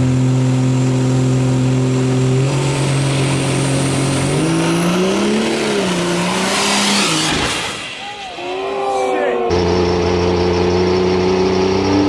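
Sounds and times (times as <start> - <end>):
diesel engine revving: 0.0 - 8.8, 9.4 - 12.0.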